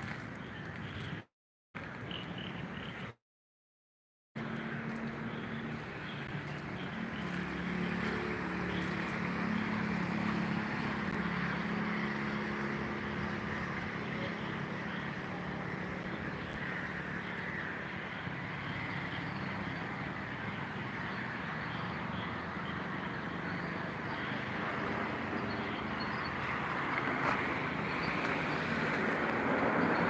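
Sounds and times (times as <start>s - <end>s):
vehicle engine droning: 4.4s - 30.0s.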